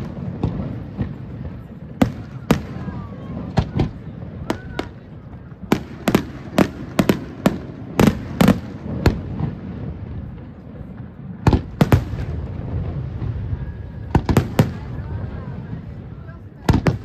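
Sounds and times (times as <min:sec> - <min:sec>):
fireworks exploding: 0:00.0 - 0:17.0.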